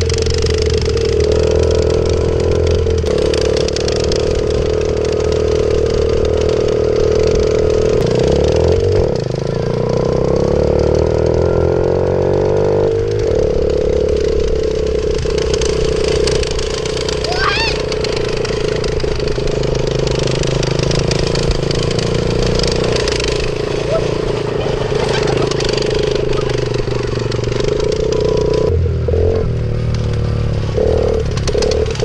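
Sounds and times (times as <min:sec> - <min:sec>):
minibike engine running: 0:00.0 - 0:32.0
second minibike engine: 0:00.0 - 0:32.0.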